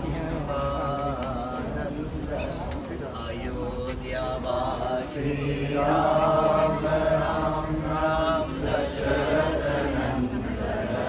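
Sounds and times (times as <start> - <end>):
voices chanting held notes: 0.0 - 11.0.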